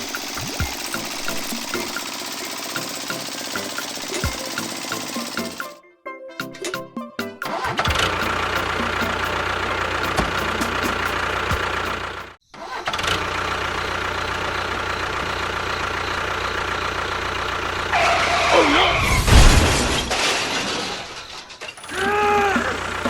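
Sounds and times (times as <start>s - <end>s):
engine cranking and running: 0.0s - 5.8s, 7.4s - 23.0s.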